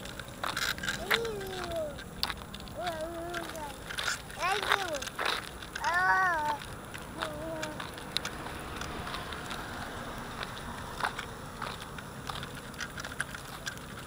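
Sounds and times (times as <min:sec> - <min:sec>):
small clicks and rattles: 0:00.0 - 0:14.0
stroller rolling on pavement: 0:00.0 - 0:14.0.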